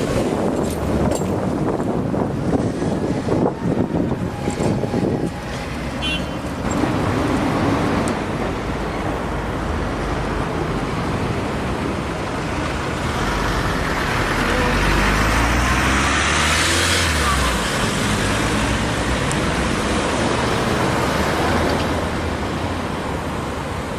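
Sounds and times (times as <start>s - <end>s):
street traffic: 0.0s - 23.9s
vehicle approaching: 0.0s - 23.9s.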